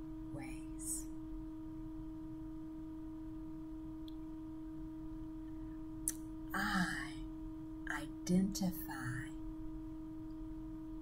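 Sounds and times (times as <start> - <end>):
steady low background tone: 0.0 - 11.0.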